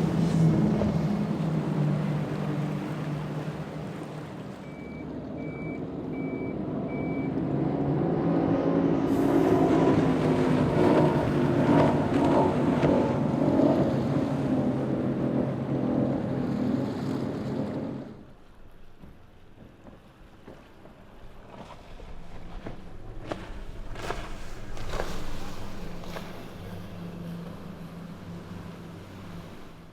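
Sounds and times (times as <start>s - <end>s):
boat engines running: 0.0s - 29.9s.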